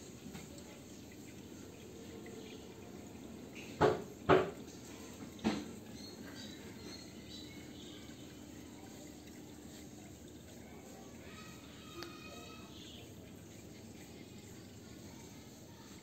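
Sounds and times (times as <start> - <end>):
faint outdoor background hiss: 0.0 - 16.0.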